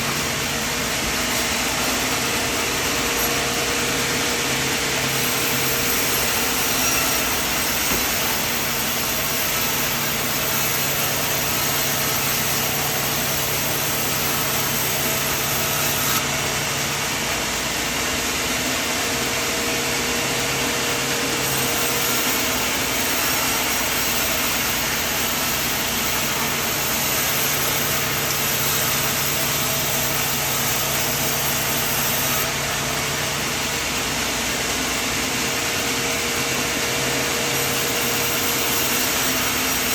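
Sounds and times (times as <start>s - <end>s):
saw cutting rush: 0.0s - 39.9s
sawmill engine hum: 0.0s - 39.9s.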